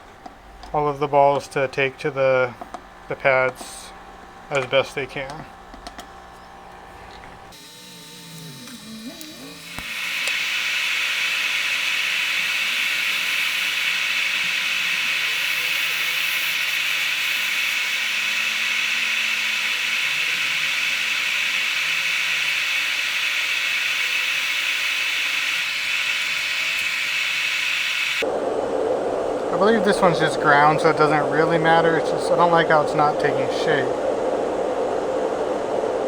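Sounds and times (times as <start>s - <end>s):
hot-air station hissing: 0.6s - 36.0s.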